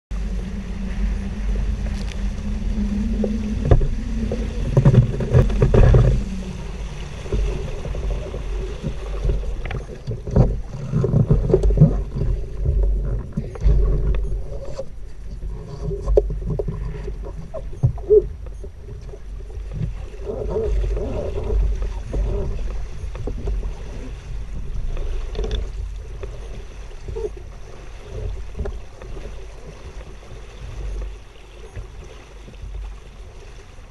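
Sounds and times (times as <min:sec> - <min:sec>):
water rushing along boat hulls: 0:00.1 - 0:33.9
wind rumble on microphone: 0:00.1 - 0:33.9.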